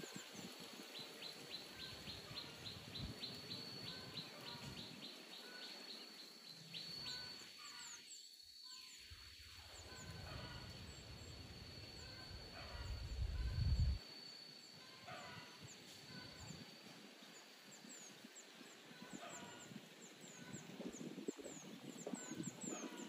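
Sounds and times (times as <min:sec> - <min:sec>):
small birds chirping: 0:00.0 - 0:14.0, 0:17.2 - 0:23.0.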